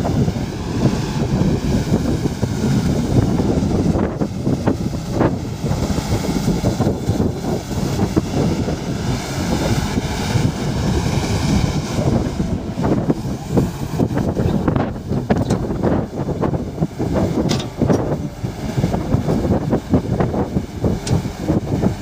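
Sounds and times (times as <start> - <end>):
excavator diesel engines running: 0.0 - 22.0
wind on microphone: 0.0 - 22.0.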